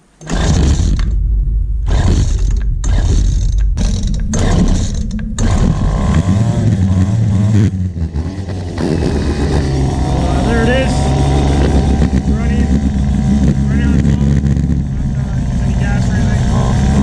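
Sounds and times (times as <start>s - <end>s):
string trimmer engine running: 1.9s - 7.5s, 8.1s - 17.0s.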